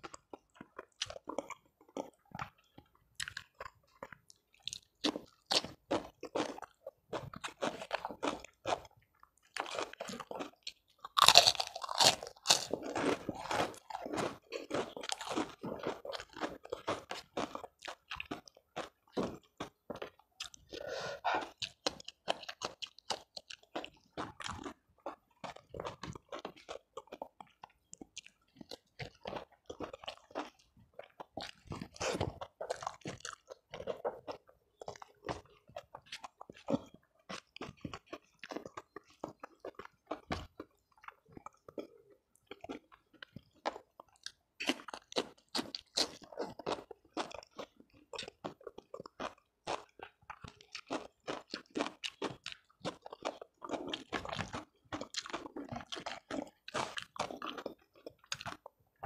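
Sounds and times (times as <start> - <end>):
crunchy chewing of food: 0.0 - 59.0.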